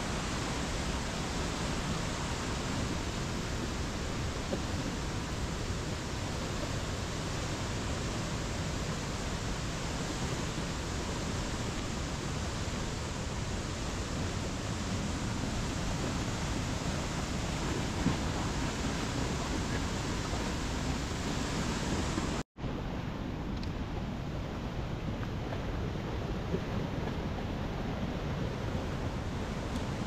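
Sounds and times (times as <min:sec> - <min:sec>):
river rushing over boulders: 0:00.0 - 0:30.0.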